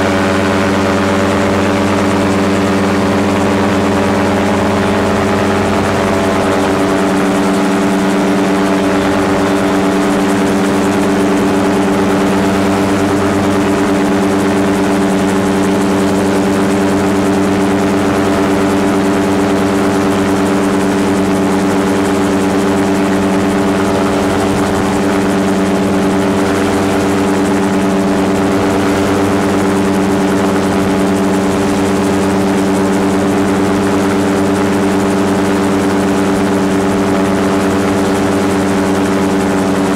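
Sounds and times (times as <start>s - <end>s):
gyrocopter engine drone: 0.0s - 39.9s.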